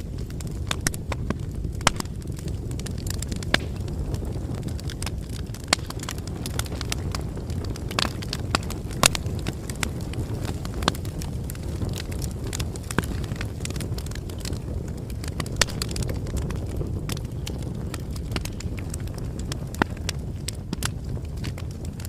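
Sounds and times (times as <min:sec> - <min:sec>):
bonfire crackling: 0:00.0 - 0:22.0.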